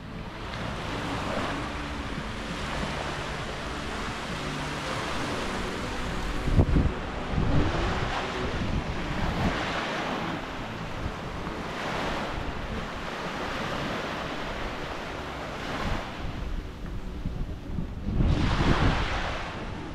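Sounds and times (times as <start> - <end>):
waves washing up shore: 0.0 - 19.9
wind buffeting microphone: 0.0 - 19.9.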